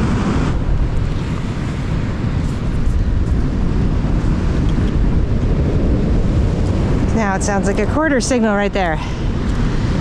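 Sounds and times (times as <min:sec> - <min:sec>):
surf washing: 0:00.0 - 0:10.0
wind rumbling on microphone: 0:00.0 - 0:10.0.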